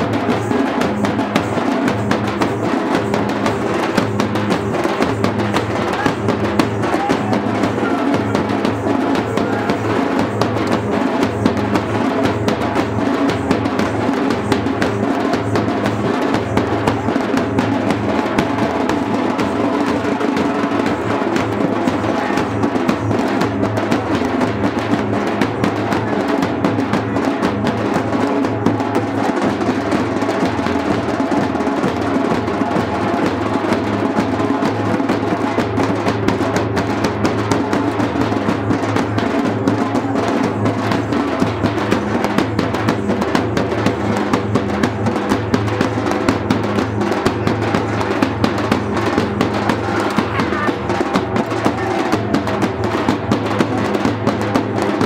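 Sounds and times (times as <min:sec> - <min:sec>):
rapid drumming: 0:00.0 - 0:55.0.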